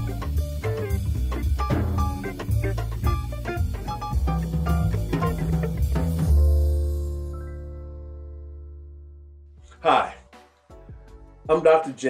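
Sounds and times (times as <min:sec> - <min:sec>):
drum kit and bass music: 0:00.0 - 0:08.4, 0:09.5 - 0:12.0.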